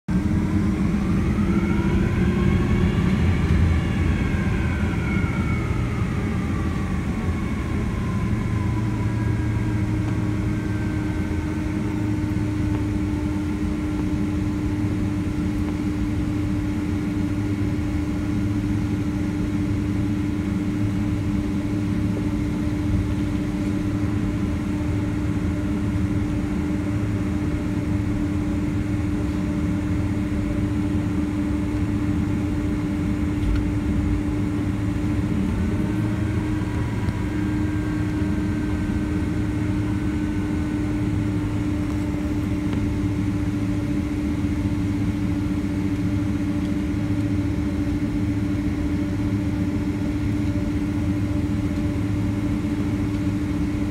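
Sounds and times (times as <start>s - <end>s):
jet engine whine: 0.1s - 53.9s
jet engines low drone: 0.1s - 53.9s
steady hum: 0.1s - 53.9s.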